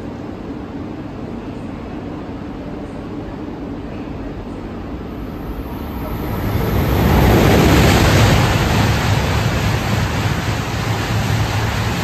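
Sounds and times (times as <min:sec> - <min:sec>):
high-speed train rushing past: 0:00.0 - 0:12.0.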